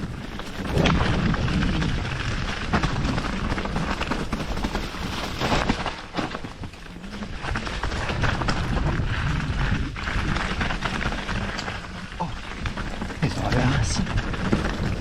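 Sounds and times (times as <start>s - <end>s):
wind on microphone: 0.0s - 4.8s, 7.1s - 15.0s
bike tyres on mud and rock: 0.0s - 15.0s.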